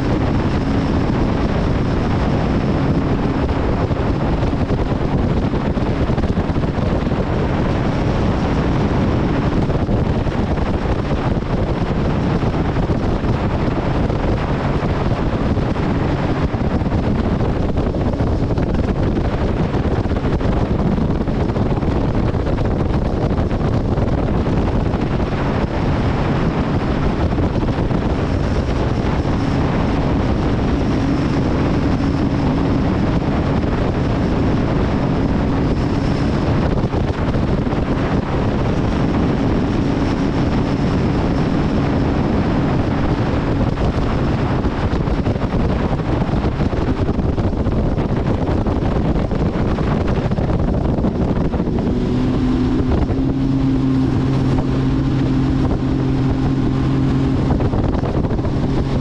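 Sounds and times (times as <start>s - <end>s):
outboard motor droning: 0.0s - 59.0s
wind on microphone: 0.0s - 59.0s.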